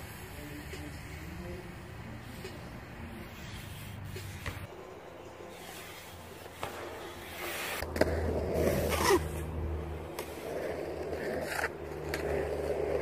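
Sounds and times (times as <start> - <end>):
bike tyre rumble on concrete: 0.0 - 13.0.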